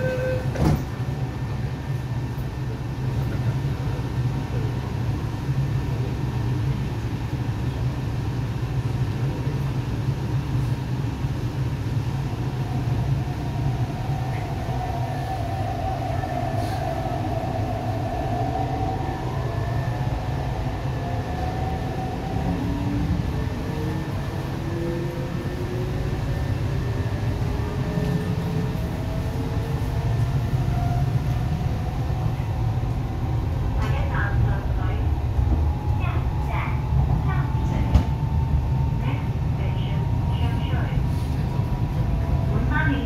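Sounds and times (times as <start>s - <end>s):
train running rumble: 0.0s - 43.0s.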